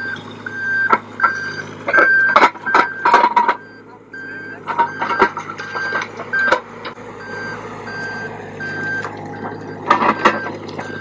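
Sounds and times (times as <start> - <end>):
diesel engine running: 0.0 - 11.0
travel alarm beeping: 0.0 - 11.0.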